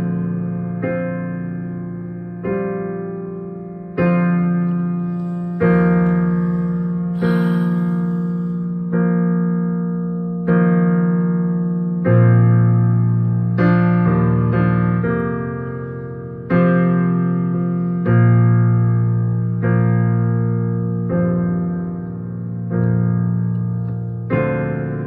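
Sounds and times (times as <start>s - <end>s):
piano playing slow chords: 0.0s - 25.0s.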